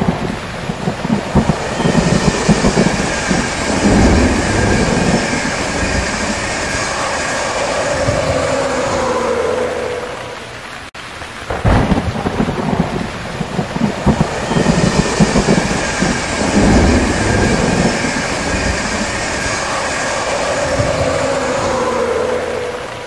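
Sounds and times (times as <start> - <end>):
heavy rain: 0.0 - 23.0
thunder rumbling: 0.0 - 23.0.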